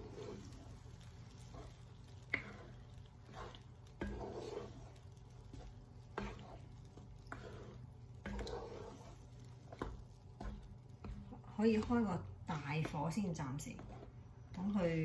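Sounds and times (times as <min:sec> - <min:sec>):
paste frying in oil: 0:00.0 - 0:15.0
wooden spatula scraping a pan: 0:00.0 - 0:15.0.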